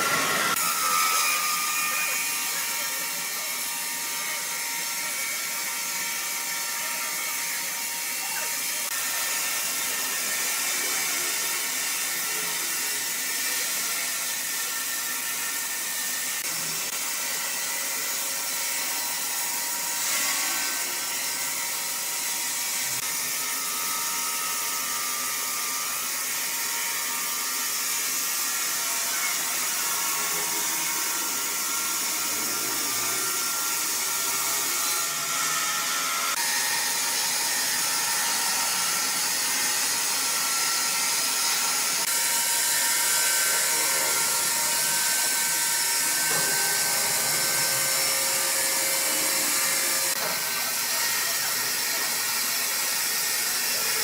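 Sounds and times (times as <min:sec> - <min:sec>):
woodworking machine cutting wood: 0:00.0 - 0:54.0.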